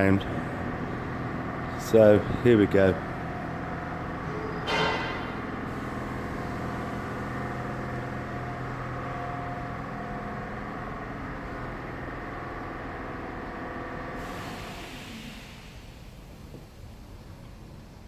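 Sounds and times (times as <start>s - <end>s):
steady droning machine hum: 0.0s - 18.0s.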